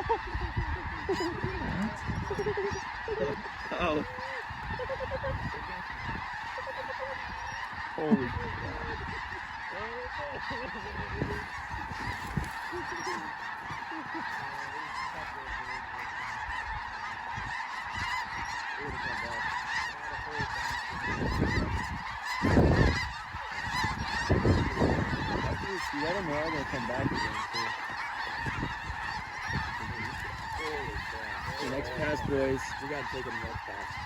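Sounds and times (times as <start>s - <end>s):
flock of geese honking: 0.0s - 34.0s.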